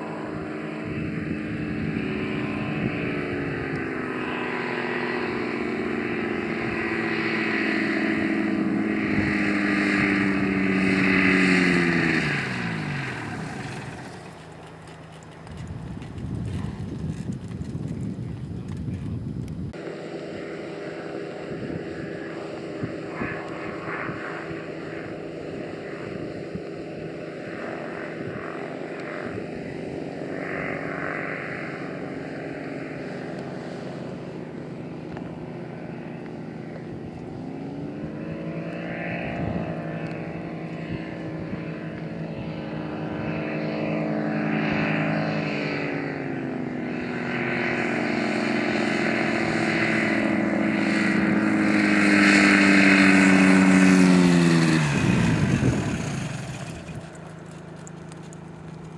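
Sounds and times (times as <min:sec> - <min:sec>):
ultralight aircraft engine droning: 0:00.0 - 0:58.9.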